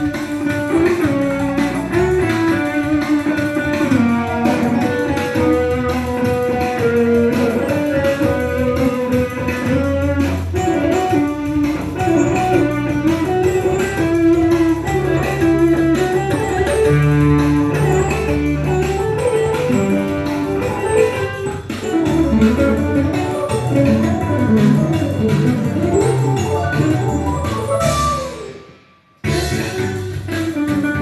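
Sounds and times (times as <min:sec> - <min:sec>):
electric guitar tapping: 0:00.0 - 0:28.7, 0:29.3 - 0:31.0.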